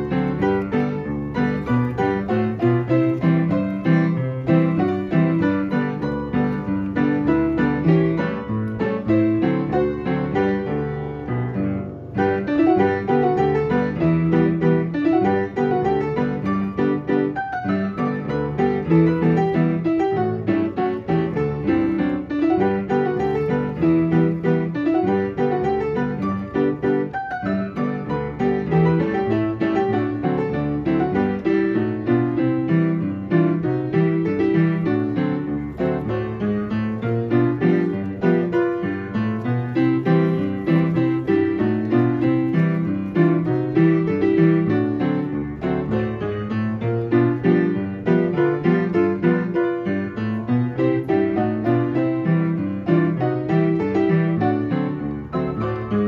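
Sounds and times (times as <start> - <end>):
player piano playing a march: 0.0 - 56.0.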